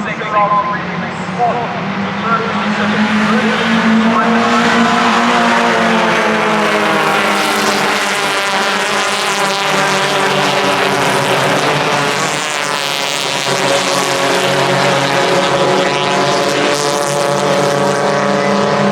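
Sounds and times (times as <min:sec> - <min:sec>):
race car engines at high revs: 0:00.0 - 0:18.9.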